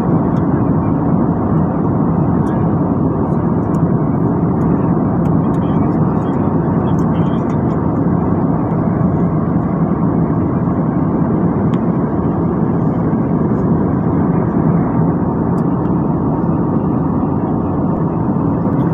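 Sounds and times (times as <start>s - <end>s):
airliner cabin engine rumble: 0.0s - 18.9s.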